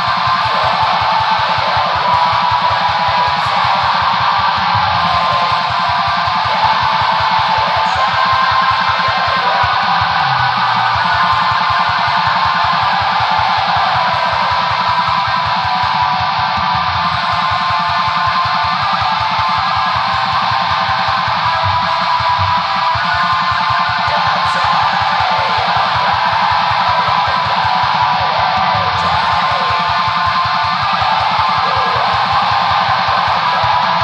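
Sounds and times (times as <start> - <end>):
distorted electric guitar: 0.0 - 34.0
rapid drumming: 0.0 - 34.0.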